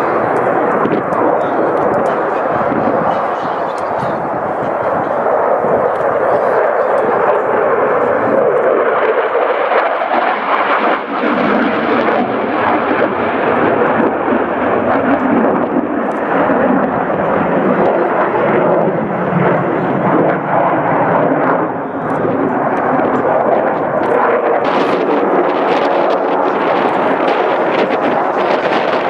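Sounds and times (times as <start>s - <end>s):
jet engine roaring overhead: 0.0s - 29.0s.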